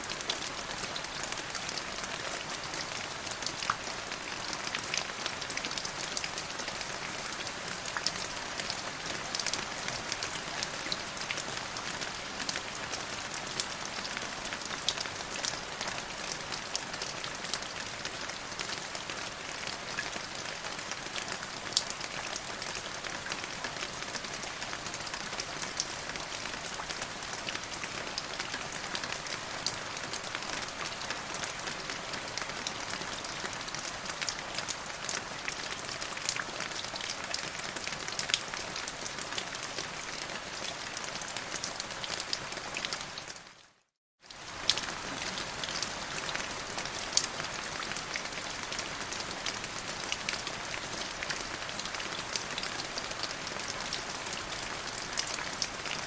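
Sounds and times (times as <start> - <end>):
rain pattering on hard surface: 0.0 - 43.5, 44.2 - 56.0.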